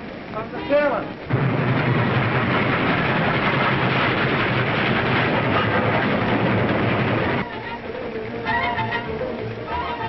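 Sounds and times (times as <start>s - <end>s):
train rumbling along track: 1.2s - 10.0s.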